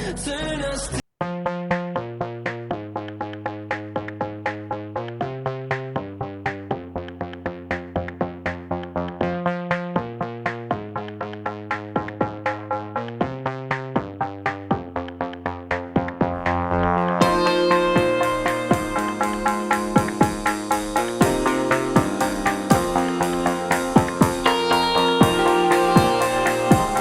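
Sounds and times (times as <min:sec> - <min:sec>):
synthesizer chords: 0:01.2 - 0:27.0
drum machine beat: 0:01.3 - 0:27.0.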